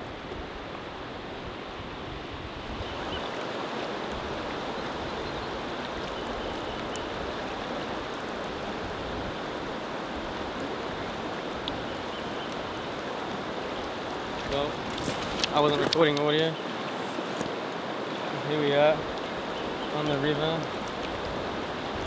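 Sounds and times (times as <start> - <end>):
river flowing over gravel: 0.0 - 22.0.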